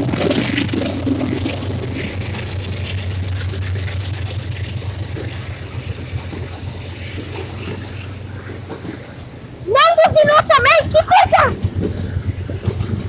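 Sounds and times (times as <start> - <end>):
locomotive engine drone: 0.0 - 13.0
wheels clicking on rails: 0.0 - 13.0.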